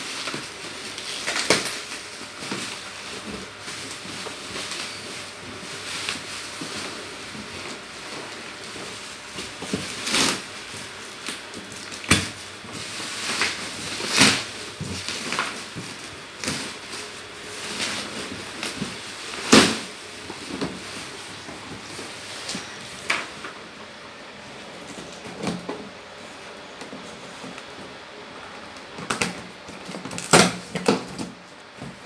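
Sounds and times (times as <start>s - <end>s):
plastic packaging crinkling: 0.0s - 23.9s, 24.6s - 32.0s.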